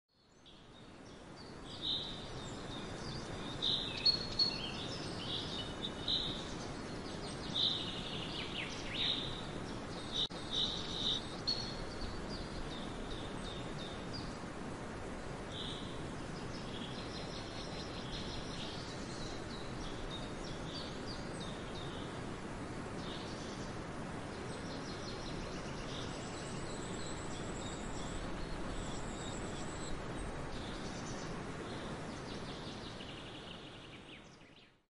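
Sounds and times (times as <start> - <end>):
outdoor background noise: 0.1 - 34.8.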